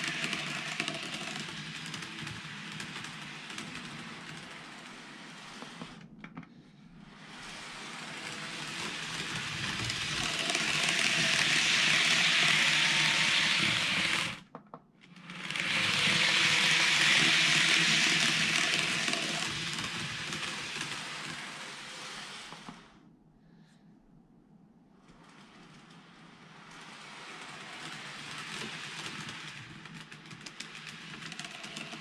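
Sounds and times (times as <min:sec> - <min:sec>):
model train motor hiss: 0:00.0 - 0:06.0, 0:07.1 - 0:14.4, 0:15.2 - 0:23.0, 0:26.6 - 0:32.0
model train wheels rolling on rails: 0:00.0 - 0:06.1, 0:07.0 - 0:23.0, 0:25.0 - 0:32.0.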